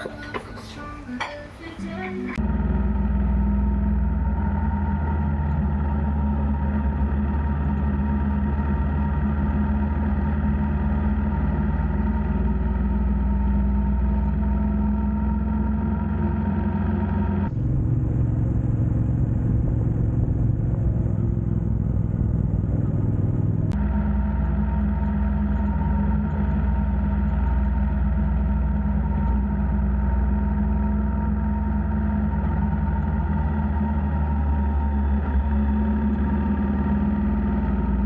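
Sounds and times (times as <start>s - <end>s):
motorcycle engine running: 2.3s - 38.0s.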